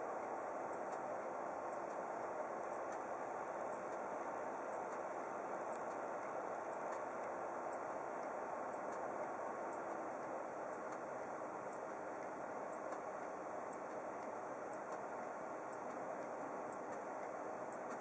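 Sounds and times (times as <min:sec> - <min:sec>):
faint high ticks: 0:00.0 - 0:18.0.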